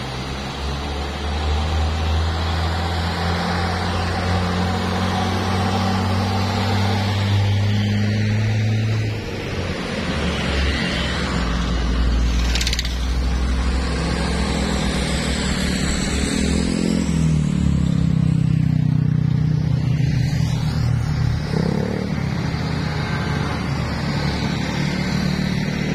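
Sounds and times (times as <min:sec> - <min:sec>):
vehicle engines running: 0:00.0 - 0:25.9.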